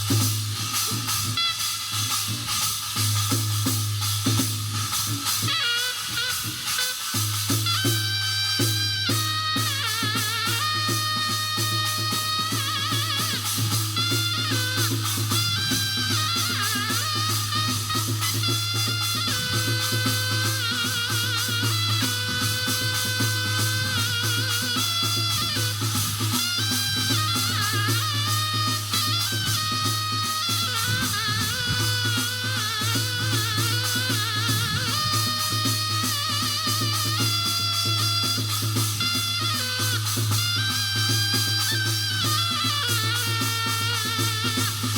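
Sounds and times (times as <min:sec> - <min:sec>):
clattering percussion: 0:00.0 - 0:44.9
drumming: 0:00.0 - 0:44.9.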